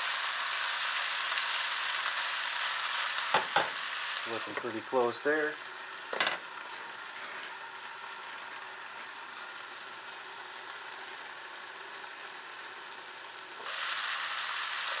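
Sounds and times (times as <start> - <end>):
food sizzling in skillet: 0.0 - 15.0.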